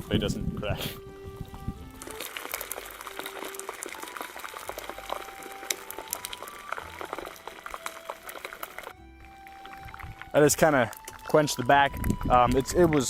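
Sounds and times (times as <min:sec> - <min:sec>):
hot steel sizzling in water: 0:01.8 - 0:13.0.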